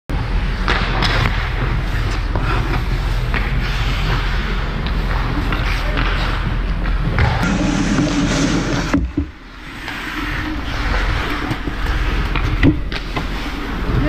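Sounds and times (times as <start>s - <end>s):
skates scraping on ice: 0.4s - 14.0s.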